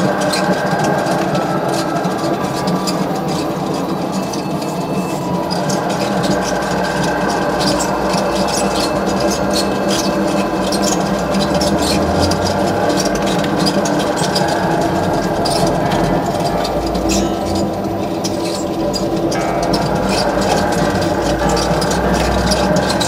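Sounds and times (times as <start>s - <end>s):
potter's wheel motor hum: 0.0s - 23.0s.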